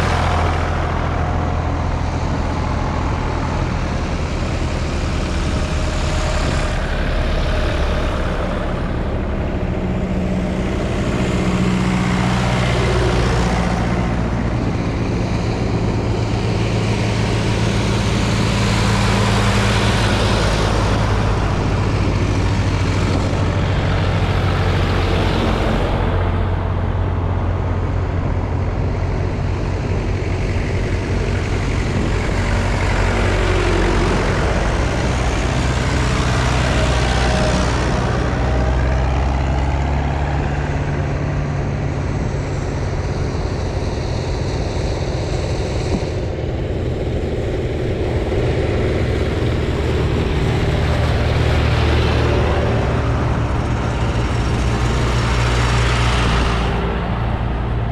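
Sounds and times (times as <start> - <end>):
road and tyre noise: 0.0 - 57.9
tractor engines passing: 0.0 - 57.9.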